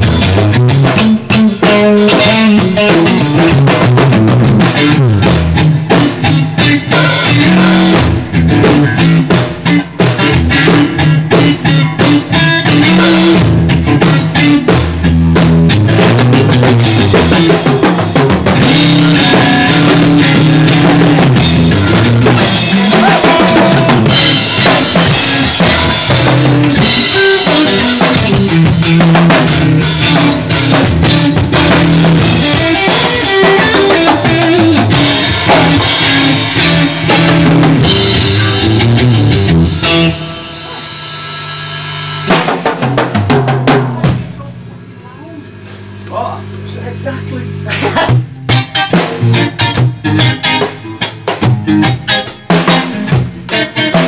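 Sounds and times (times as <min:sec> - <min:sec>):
electric guitar: 0:00.0 - 0:46.7, 0:47.4 - 0:54.0
drum kit played hard: 0:00.0 - 0:54.0.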